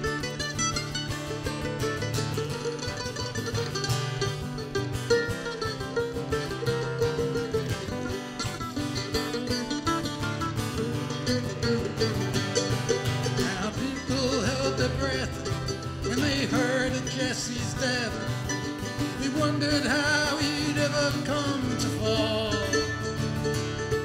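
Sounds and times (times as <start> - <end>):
acoustic guitar strumming: 0.0 - 24.0
mandolin picking melody: 0.0 - 24.0.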